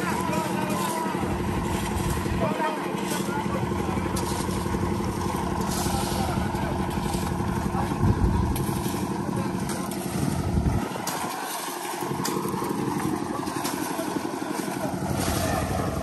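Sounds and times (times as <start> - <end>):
small petrol engine running: 0.0 - 16.0.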